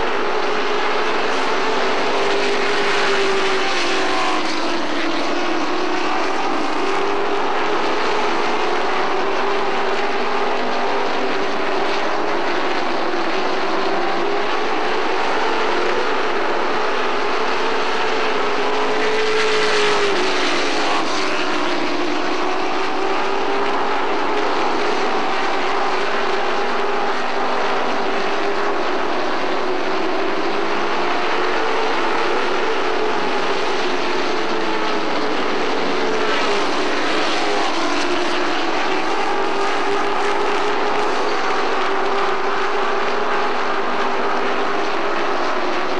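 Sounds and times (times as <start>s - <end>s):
racing truck engines droning: 0.0s - 45.9s.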